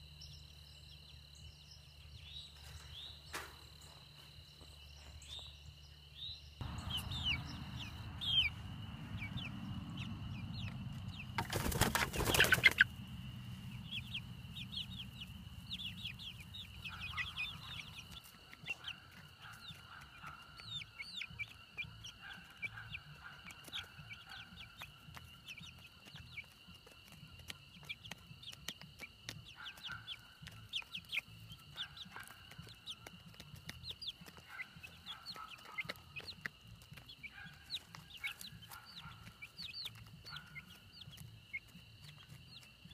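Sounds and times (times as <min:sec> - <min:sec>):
young chickens peeping: 0:00.0 - 0:42.9.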